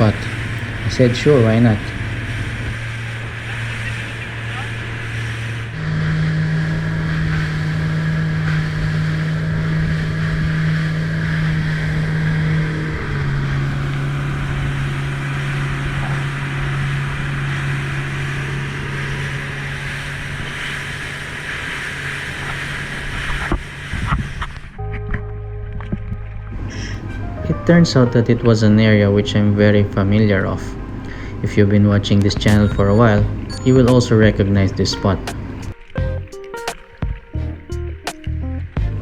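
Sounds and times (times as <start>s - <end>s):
motorboat engine running: 0.0s - 39.0s
water noise: 0.0s - 39.0s
wind: 0.0s - 39.0s.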